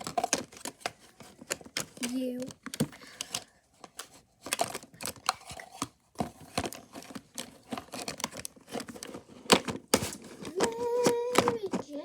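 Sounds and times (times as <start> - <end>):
small objects clicking and tapping: 0.0 - 12.0.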